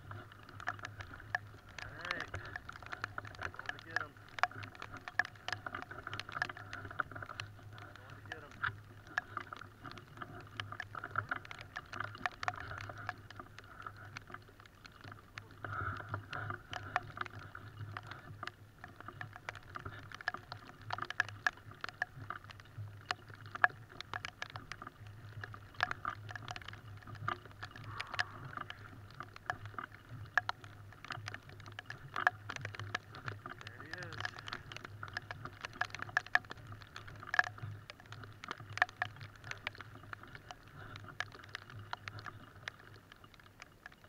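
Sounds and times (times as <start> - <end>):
light ticks and taps: 0.0 - 44.0.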